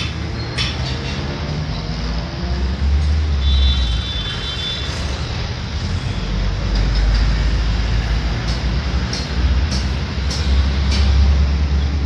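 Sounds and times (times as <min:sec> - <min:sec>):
busy road traffic rumble: 0:00.0 - 0:12.0.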